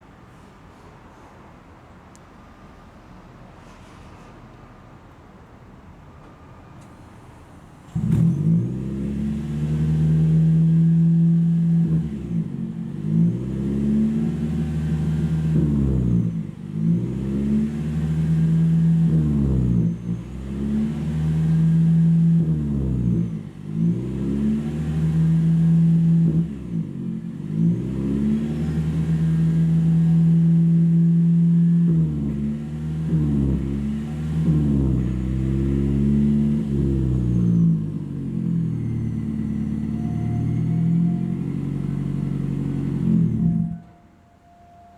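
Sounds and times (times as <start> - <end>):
car engine revving through exhaust: 7.9 - 43.9.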